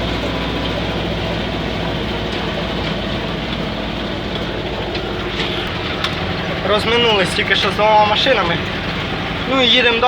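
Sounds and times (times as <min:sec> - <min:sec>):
engine running steadily: 0:00.0 - 0:10.0
road noise: 0:00.0 - 0:10.0.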